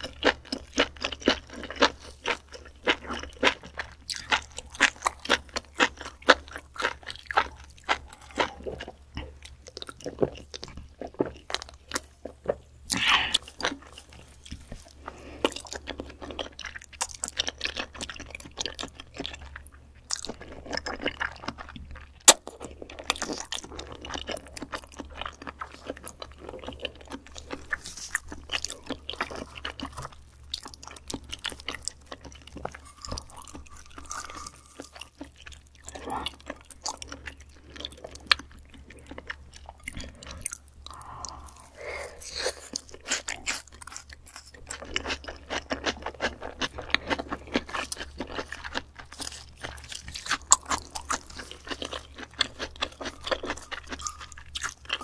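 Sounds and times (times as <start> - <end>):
wet chewing and mouth clicks: 0.0 - 55.0.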